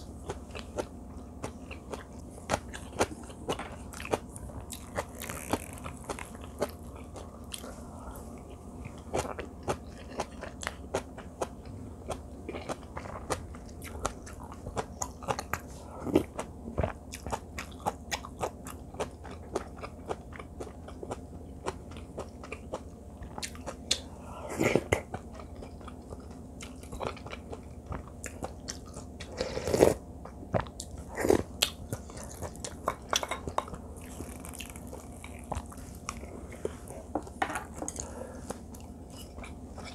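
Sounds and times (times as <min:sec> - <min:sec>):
soft chewing crunches: 0:00.0 - 0:39.9.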